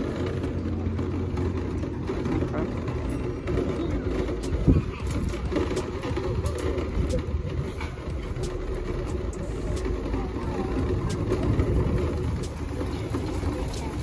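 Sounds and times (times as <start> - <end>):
shopping cart rolling over asphalt: 0.0 - 14.0.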